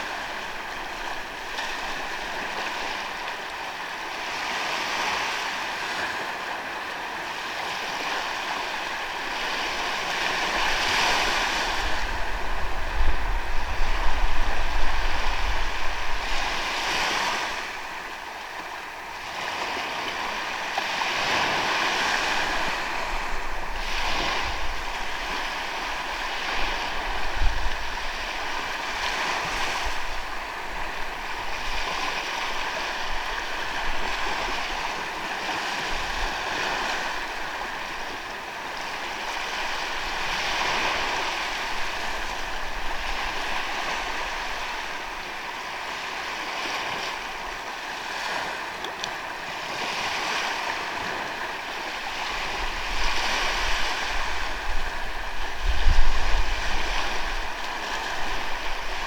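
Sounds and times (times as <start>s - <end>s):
wind rumble on microphone: 0.0s - 18.2s, 19.4s - 48.6s, 49.5s - 59.0s
sea waves breaking on beach: 0.0s - 59.0s.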